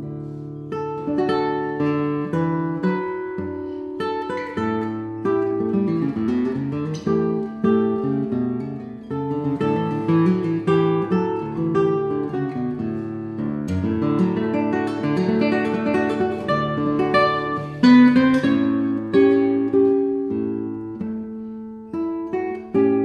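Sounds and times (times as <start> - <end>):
acoustic guitar plucked and strummed: 0.0 - 23.0.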